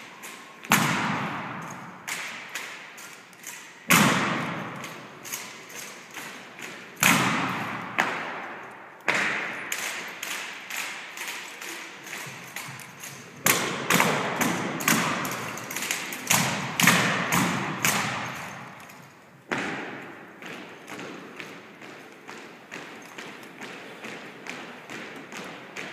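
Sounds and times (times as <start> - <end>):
drill rifles knocking with echo: 0.2 - 25.9.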